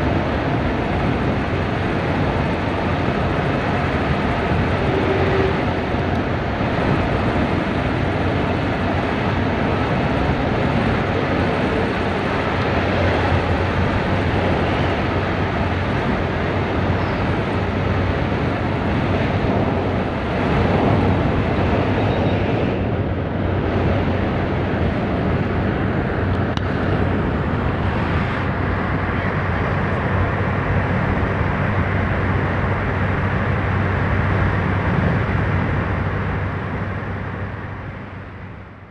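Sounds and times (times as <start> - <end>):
diesel bus engine running: 0.0 - 38.9
wind and tyre noise: 0.0 - 38.9.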